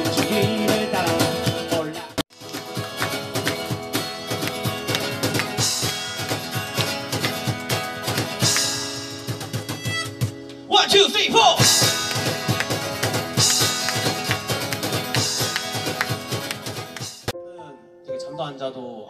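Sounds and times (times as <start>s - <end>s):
strummed acoustic guitar: 0.0s - 17.3s
cajon beat: 0.0s - 17.4s.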